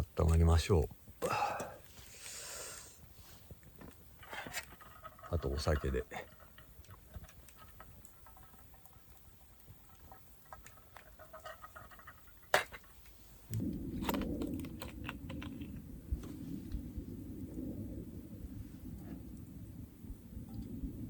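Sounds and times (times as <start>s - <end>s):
low rushing noise with crackles: 0.0s - 21.0s.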